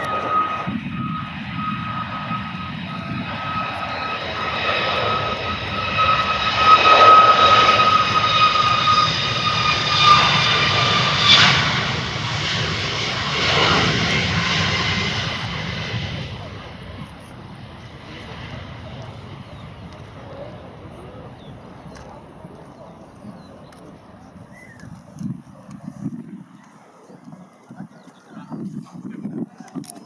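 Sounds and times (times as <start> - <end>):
jet engines whining: 0.0 - 26.4.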